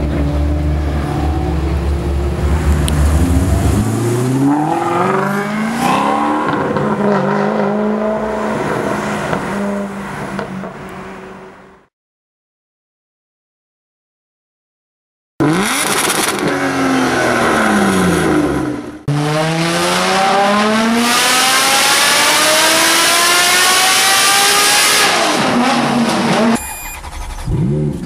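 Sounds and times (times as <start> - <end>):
car engine revving: 0.0 - 11.8, 15.4 - 28.0.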